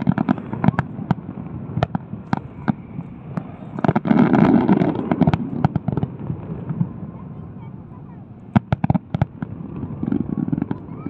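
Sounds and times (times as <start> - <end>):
fireworks bangs and crackle: 0.0 - 11.0.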